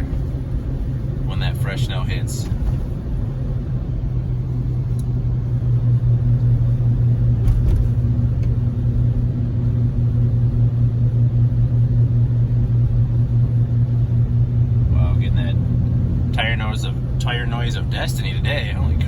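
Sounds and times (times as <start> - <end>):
tires droning on road: 0.0 - 19.0.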